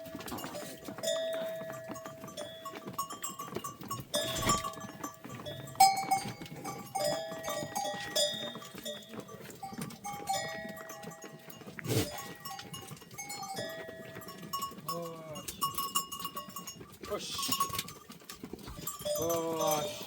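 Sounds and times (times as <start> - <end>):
animal bells clinking: 0.0 - 20.0.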